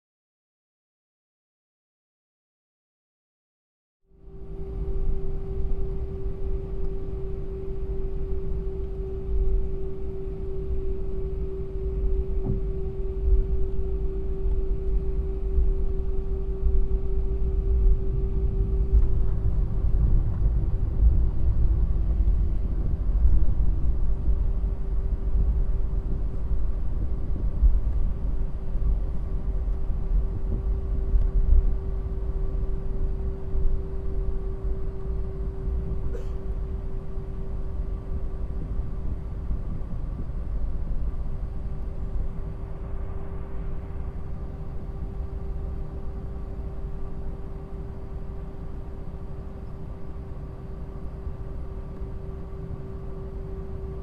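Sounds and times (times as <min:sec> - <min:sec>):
constant mid-pitched hum: 0:04.1 - 0:54.0
airliner cabin rumble: 0:04.3 - 0:54.0.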